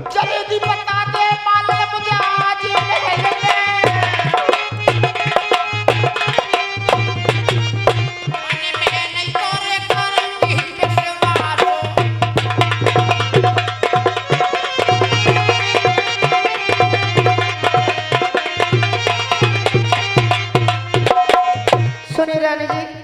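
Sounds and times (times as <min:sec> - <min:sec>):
fast hand drum strokes: 0:02.9 - 0:22.0.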